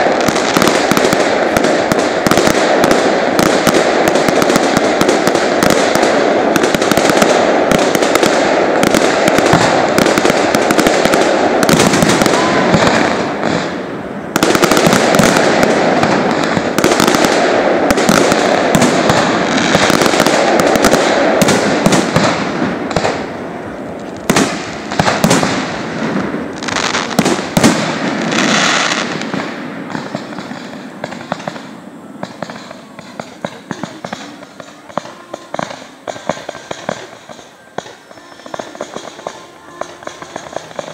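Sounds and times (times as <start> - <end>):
fireworks crackling and bangs: 0.0 - 40.9.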